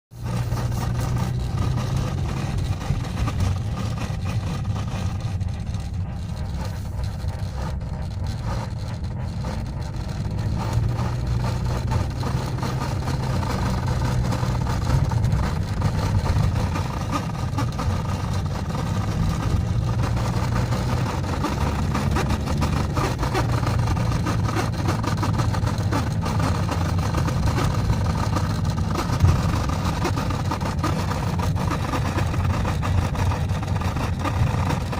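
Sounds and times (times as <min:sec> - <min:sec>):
car running noise: 0:00.1 - 0:34.9
speedometer cable humming: 0:00.1 - 0:34.9.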